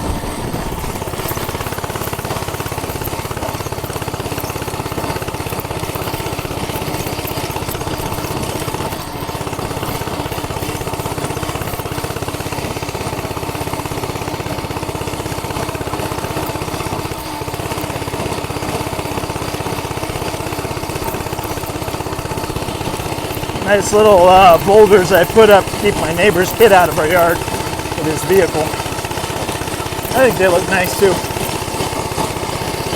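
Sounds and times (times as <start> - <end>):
minibike engine puttering: 0.0 - 32.9.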